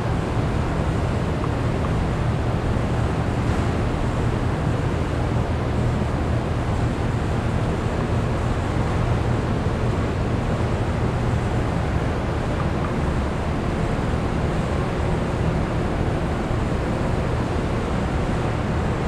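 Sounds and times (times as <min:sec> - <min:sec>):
industrial machinery drone: 0:00.0 - 0:19.0.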